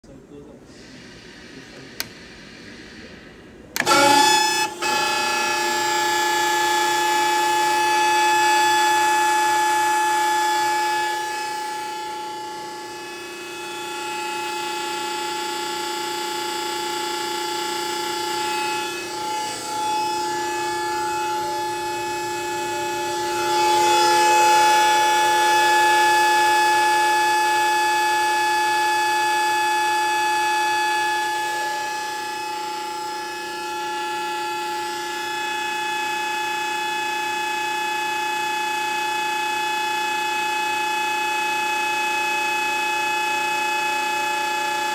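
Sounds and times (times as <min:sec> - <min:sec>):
hydraulic motor and pump whining: 0:00.0 - 0:44.9.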